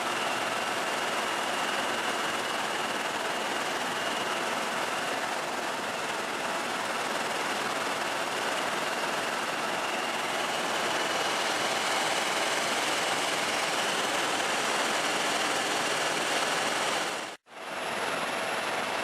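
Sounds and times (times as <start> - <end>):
helicopter in flight: 0.0 - 19.0.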